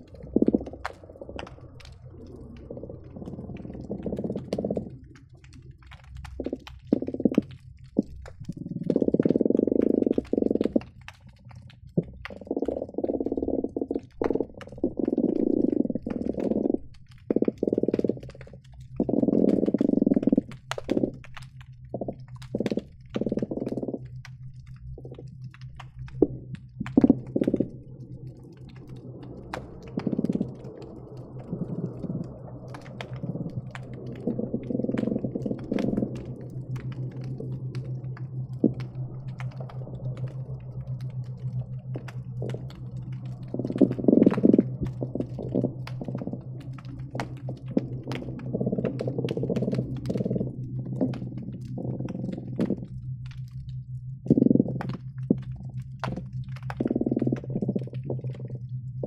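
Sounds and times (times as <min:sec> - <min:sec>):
fish croaking underwater: 0:00.0 - 0:59.0
steady low hum: 0:00.0 - 0:59.0.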